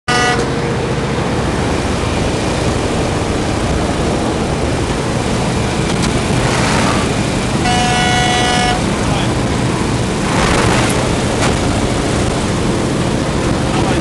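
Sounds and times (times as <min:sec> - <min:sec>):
propeller aircraft engine roar in cabin: 0:00.1 - 0:14.0.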